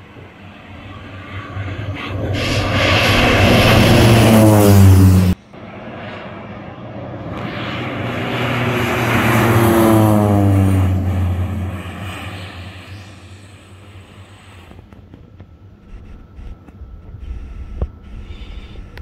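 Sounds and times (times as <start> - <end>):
propeller plane passing low: 0.0 - 19.0.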